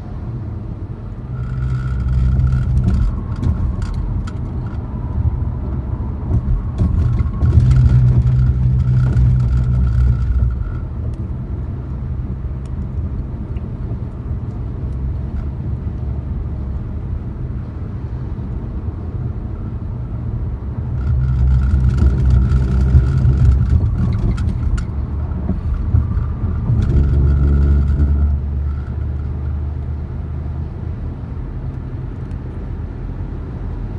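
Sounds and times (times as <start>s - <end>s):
road and engine rumble: 0.0s - 33.9s.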